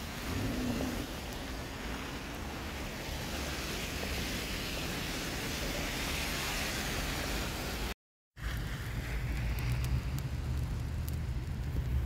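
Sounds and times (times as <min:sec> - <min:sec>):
car tyres swishing through slush: 0:00.0 - 0:12.0
street traffic: 0:00.0 - 0:12.0
wind: 0:00.0 - 0:12.0.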